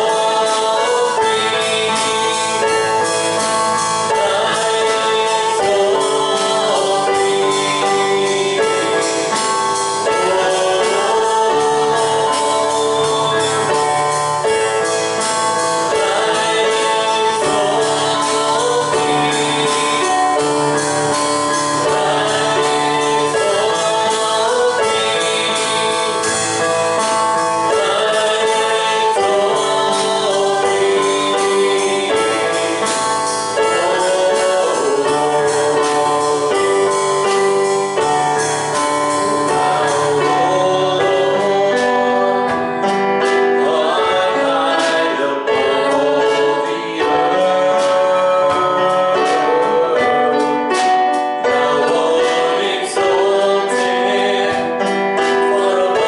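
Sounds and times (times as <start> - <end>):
gospel band playing: 0.0 - 56.0
voices singing: 0.0 - 56.0.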